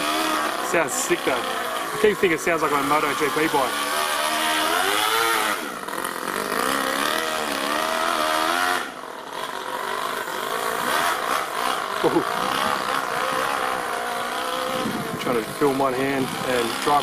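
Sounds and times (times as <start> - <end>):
model engine revving: 0.0 - 17.0.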